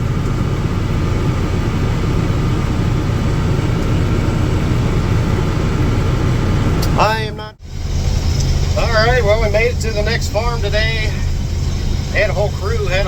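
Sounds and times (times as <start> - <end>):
diesel engine drone: 0.0 - 13.0
faint steady whines: 0.0 - 13.0.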